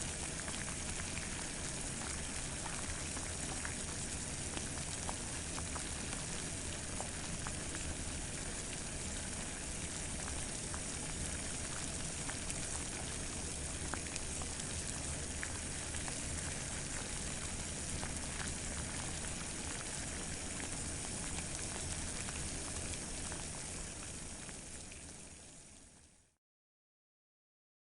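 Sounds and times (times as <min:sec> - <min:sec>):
water boiling: 0:00.0 - 0:26.4.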